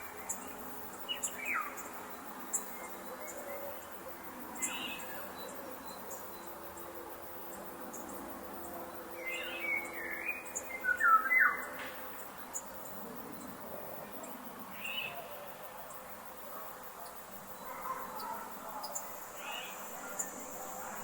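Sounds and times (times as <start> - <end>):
birds chirping and warbling: 0.2 - 6.9, 7.5 - 13.6, 14.2 - 15.3, 17.0 - 21.0.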